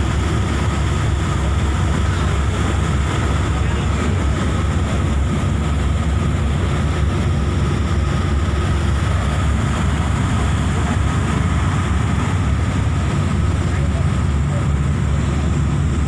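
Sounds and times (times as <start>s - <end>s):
ferry engine drone: 0.0s - 16.0s
wind and water rushing: 0.0s - 16.0s.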